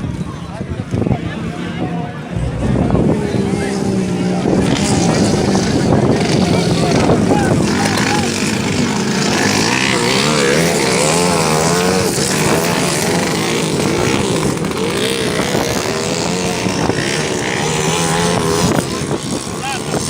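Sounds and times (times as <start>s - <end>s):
racing motorcycle engines revving: 0.9s - 20.0s.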